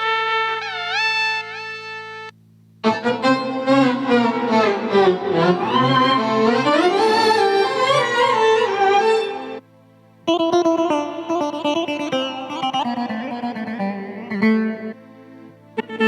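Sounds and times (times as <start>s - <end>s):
keyboard violin melody: 0.0s - 9.6s, 10.3s - 16.0s.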